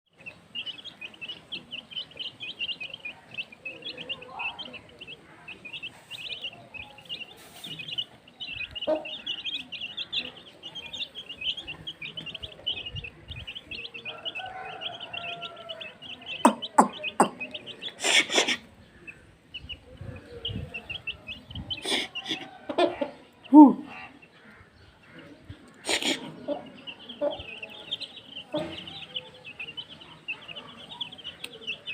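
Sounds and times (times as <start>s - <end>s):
chicks peeping: 0.1s - 31.9s.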